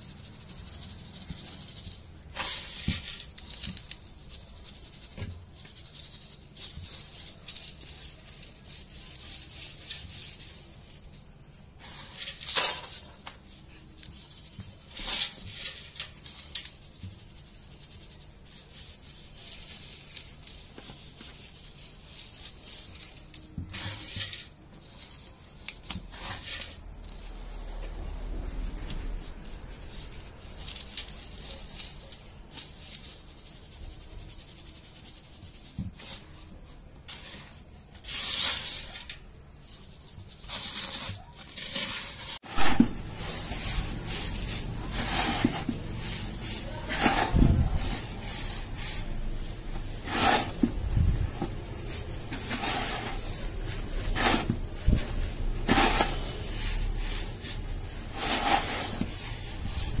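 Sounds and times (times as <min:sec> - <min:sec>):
sand rubbed between hands: 0:00.0 - 1:00.0.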